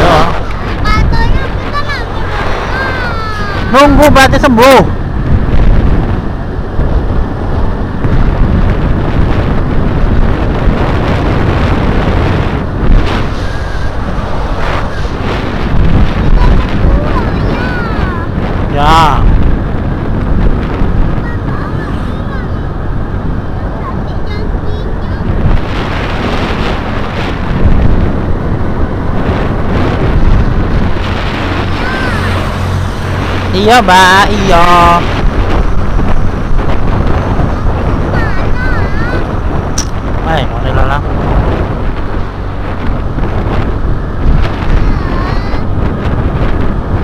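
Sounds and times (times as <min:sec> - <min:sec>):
vehicle rumble: 0:00.0 - 0:47.0
wind buffeting microphone: 0:00.0 - 0:47.0.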